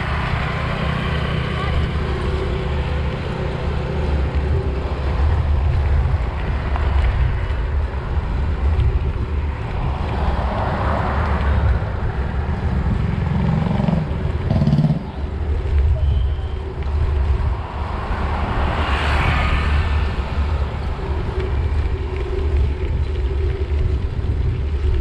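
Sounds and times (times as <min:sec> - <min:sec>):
road and traffic noise: 0:00.0 - 0:25.0
wind buffeting microphone: 0:00.0 - 0:25.0.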